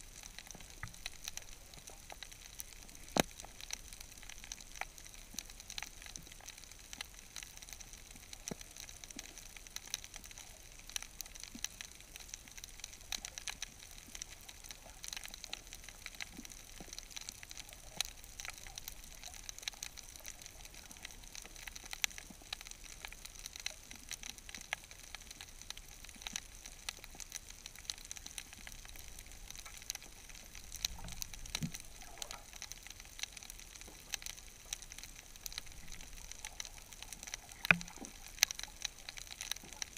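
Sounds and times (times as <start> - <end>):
snapping shrimp crackle underwater: 0.0 - 39.9.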